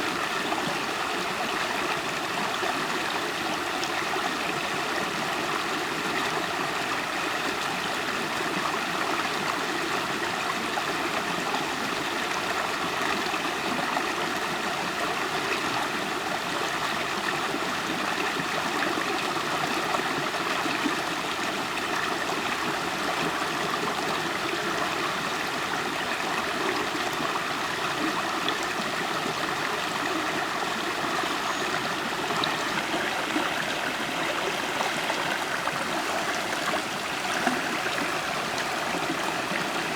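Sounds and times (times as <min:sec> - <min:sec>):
river water flowing over rocks: 0:00.1 - 0:39.9.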